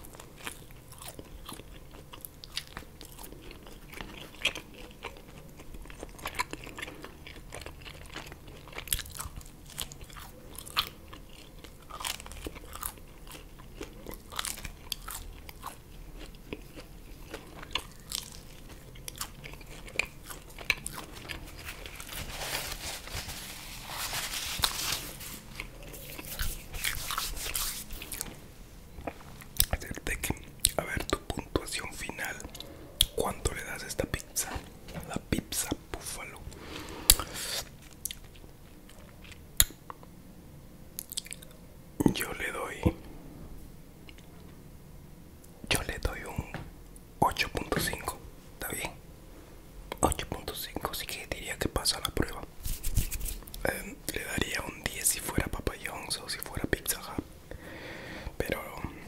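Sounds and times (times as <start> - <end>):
chewing and crunching pizza crust: 0.0 - 40.1, 40.9 - 43.0, 49.9 - 59.0.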